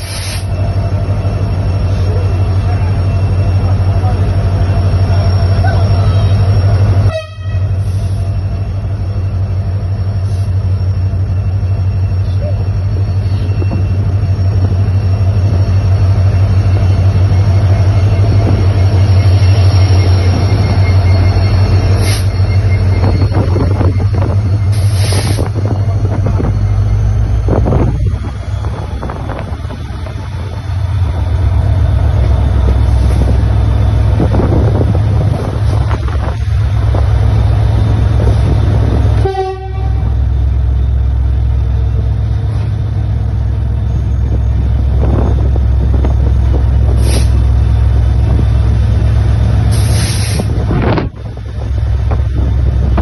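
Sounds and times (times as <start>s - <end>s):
locomotive engine rumble: 0.0s - 53.0s.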